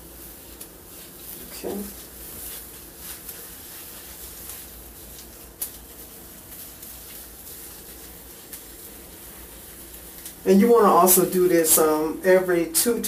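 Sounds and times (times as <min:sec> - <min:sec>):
hands rubbing cream through hair: 0:00.0 - 0:13.0.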